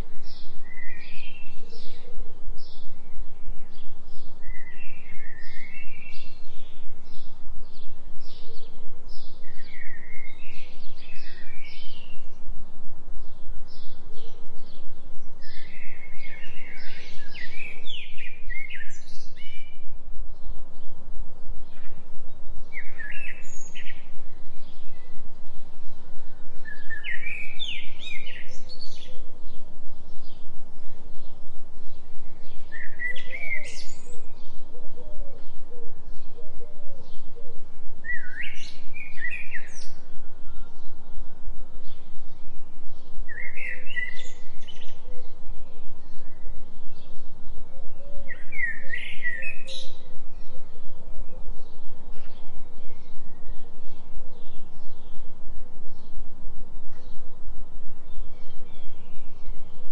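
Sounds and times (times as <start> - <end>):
low pulsing tone: 0.0 - 59.9
songbirds chirping and warbling: 0.0 - 59.9.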